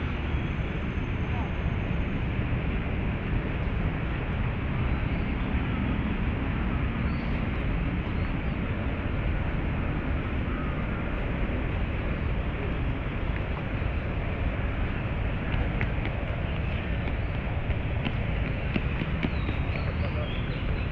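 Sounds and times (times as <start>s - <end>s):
city traffic rumble: 0.0s - 20.9s.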